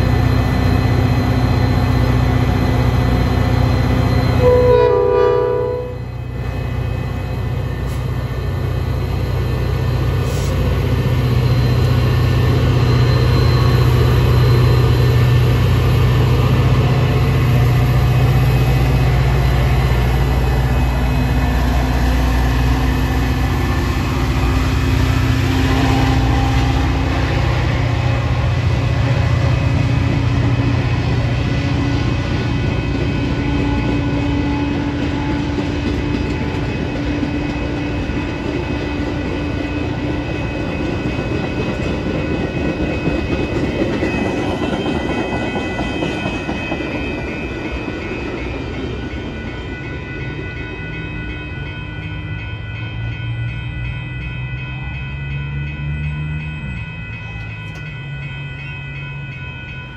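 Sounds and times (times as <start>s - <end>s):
diesel train passing: 0.0s - 59.9s.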